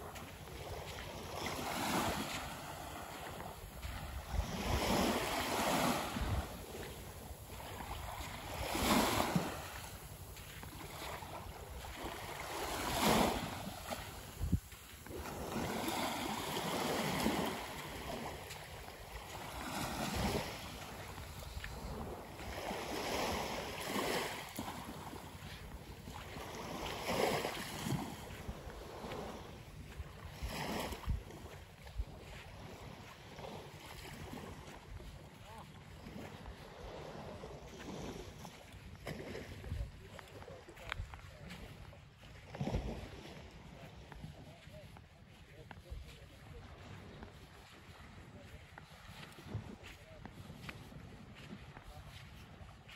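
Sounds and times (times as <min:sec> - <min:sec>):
small waves lapping on shore: 0:00.0 - 0:52.9.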